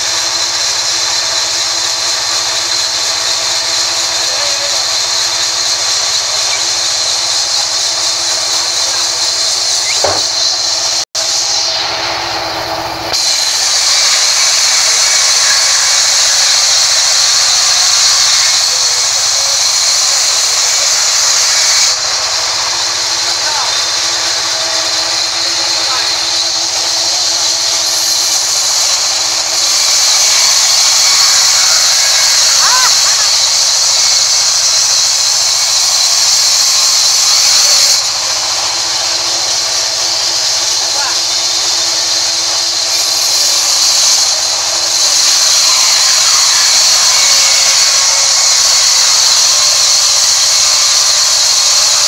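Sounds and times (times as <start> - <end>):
band saw cutting wood: 0.0 - 52.0.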